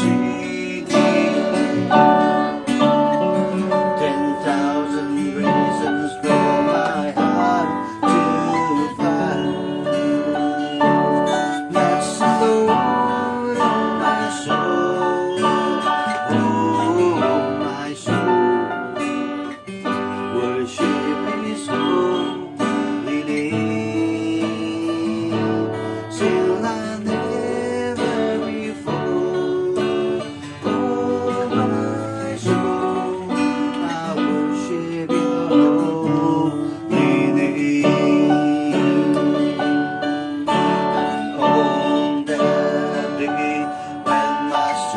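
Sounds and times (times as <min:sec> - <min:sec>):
electronic keyboard plucked melody: 0:00.0 - 0:44.9
keyboard rhythm accompaniment: 0:00.0 - 0:44.9.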